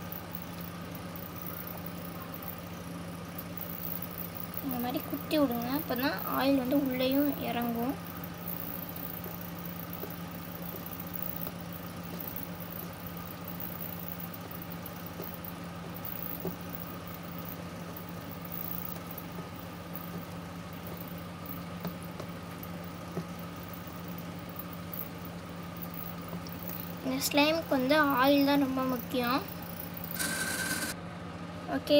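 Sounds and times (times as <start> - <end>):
low machine hum: 0.0 - 31.9.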